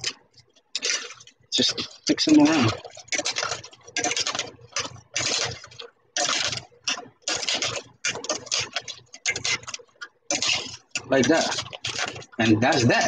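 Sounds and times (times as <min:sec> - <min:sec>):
shrimp stirred in a steel saucepan: 0:00.8 - 0:13.0.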